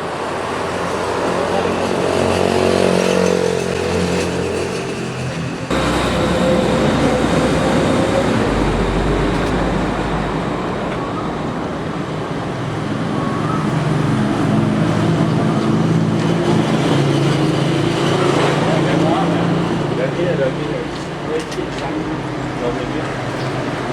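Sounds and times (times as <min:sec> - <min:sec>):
deep engine rumble: 0:00.0 - 0:23.9
vehicle engines passing: 0:00.0 - 0:23.9.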